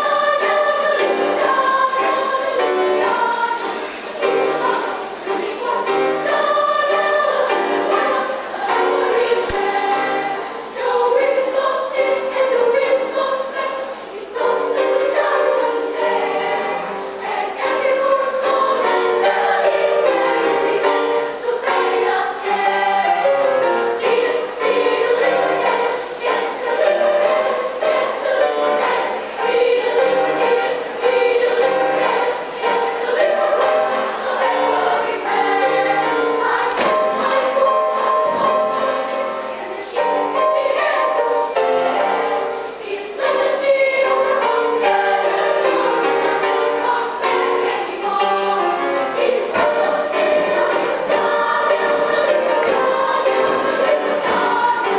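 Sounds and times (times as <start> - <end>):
children's choir singing: 0.0 - 54.9.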